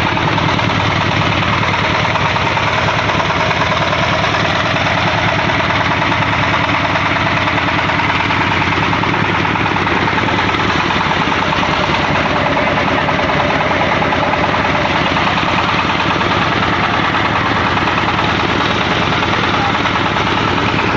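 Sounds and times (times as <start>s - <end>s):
stationary diesel engine running: 0.0s - 20.9s.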